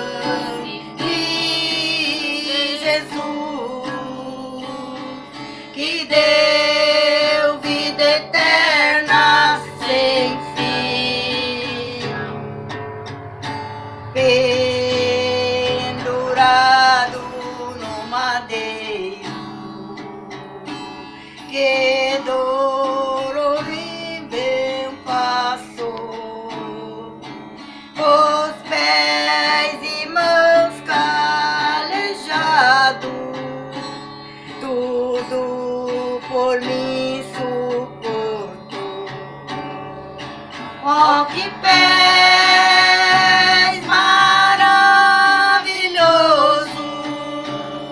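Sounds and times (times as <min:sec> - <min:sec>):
woman singing: 0:00.0 - 0:12.6, 0:14.1 - 0:19.9, 0:21.2 - 0:39.1, 0:40.8 - 0:47.9
acoustic guitar: 0:00.0 - 0:47.9.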